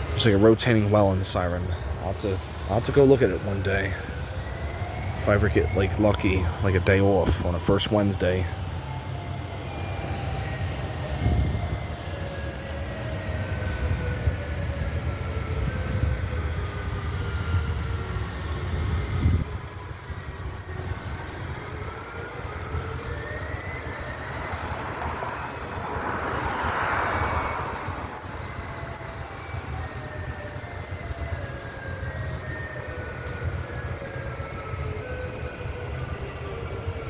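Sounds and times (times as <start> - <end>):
distant warning sirens wailing: 0.0 - 37.0
low traffic rumble: 0.0 - 37.0.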